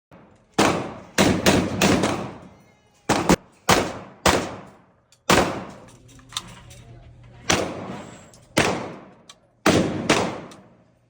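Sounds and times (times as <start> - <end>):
echoing gunshots: 0.1 - 5.8, 7.5 - 10.9.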